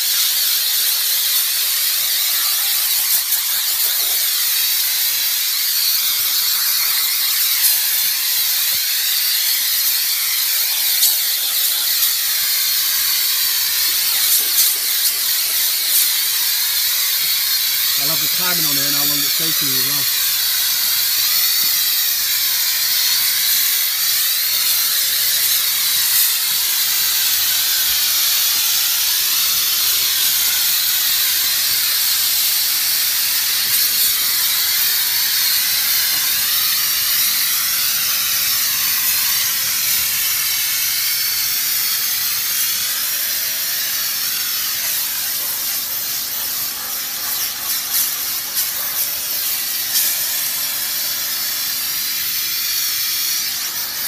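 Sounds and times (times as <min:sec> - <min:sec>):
steam cleaner hissing: 0:00.0 - 0:54.0.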